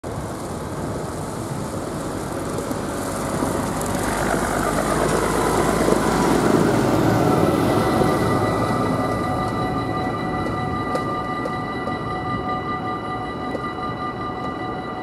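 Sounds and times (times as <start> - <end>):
tyres on wet road: 0.0 - 14.7
backhoe diesel engine passing: 0.1 - 15.0.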